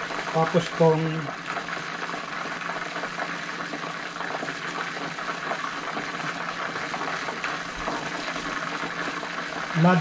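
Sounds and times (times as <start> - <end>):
pot bubbling and crackling: 0.0 - 10.0.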